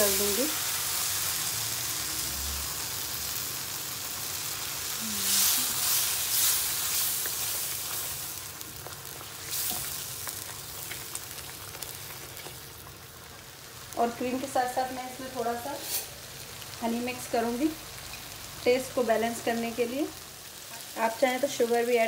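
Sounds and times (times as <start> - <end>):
gravy sizzling in a pan: 0.0 - 22.0.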